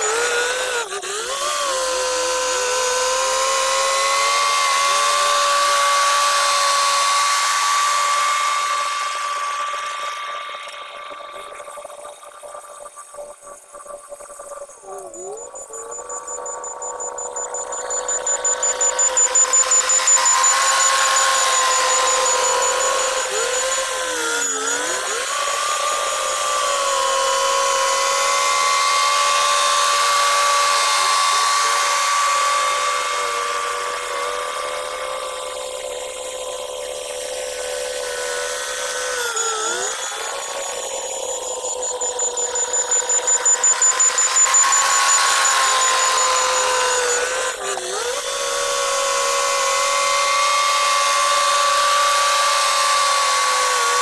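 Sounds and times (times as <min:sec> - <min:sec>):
bulldozer engine whine: 0:00.0 - 0:52.5.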